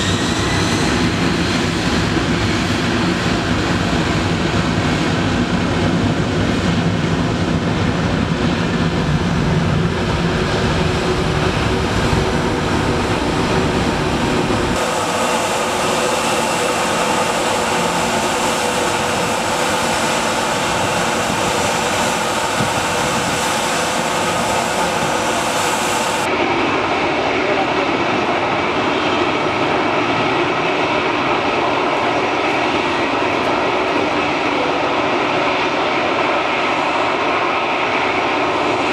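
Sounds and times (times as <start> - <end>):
airliner taking off: 0.0 - 38.9
jet engines rumbling: 0.0 - 38.9.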